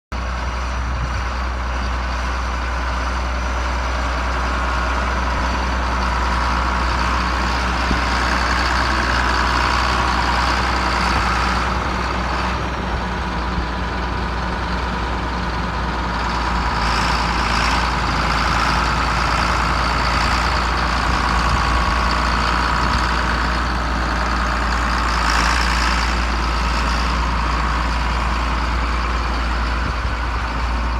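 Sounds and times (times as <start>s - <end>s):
tractor diesel engine running: 0.1s - 30.9s.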